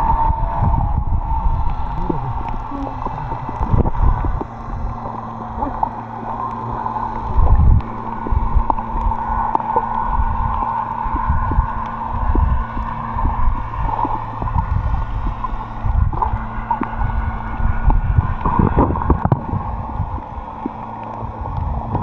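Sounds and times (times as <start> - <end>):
steady low hum: 0.0 - 22.0
underwater sloshing and rumbling: 0.0 - 22.0.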